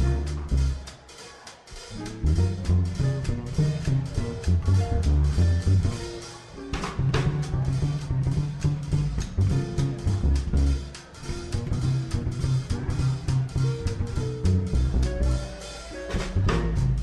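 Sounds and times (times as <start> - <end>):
swing jazz band playing: 0.0 - 17.0.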